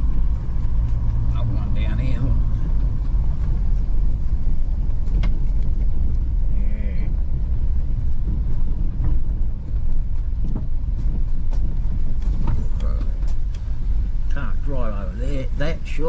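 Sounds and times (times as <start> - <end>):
light knocks and rattles: 0.0 - 6.5, 7.1 - 14.3
vehicle driving rumble: 0.0 - 16.0.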